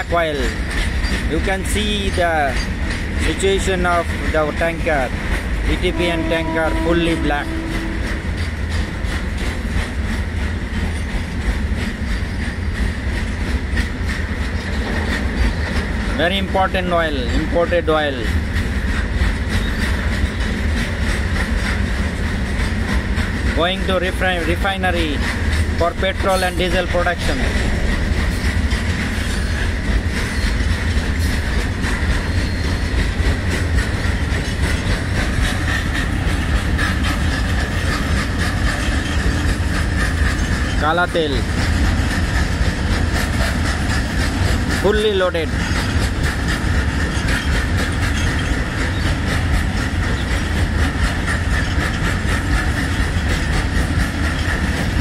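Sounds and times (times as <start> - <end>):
freight train rumbling past: 0.0 - 55.0
wheels clicking over rail joints: 0.0 - 55.0.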